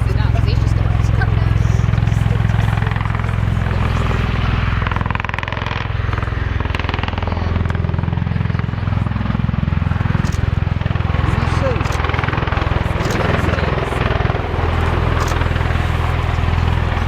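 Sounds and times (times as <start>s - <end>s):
tiltrotor aircraft rotors beating: 0.0s - 17.0s
turbine noise: 0.0s - 17.0s.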